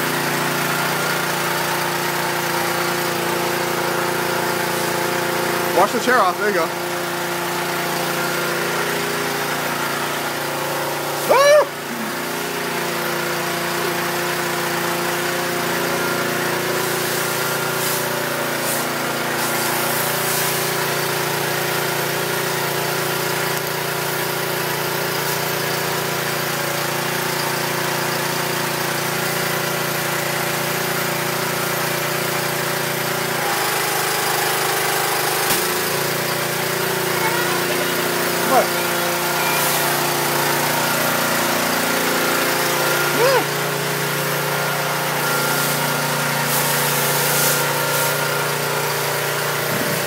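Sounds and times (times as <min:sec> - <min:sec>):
pressure washer spraying wood: 0:00.0 - 0:50.0.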